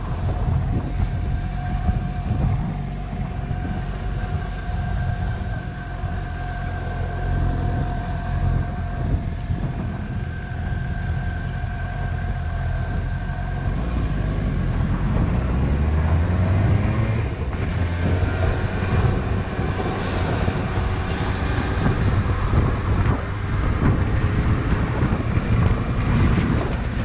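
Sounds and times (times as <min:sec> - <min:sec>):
motorcycle engine idling and accelerating: 0:00.0 - 0:27.0.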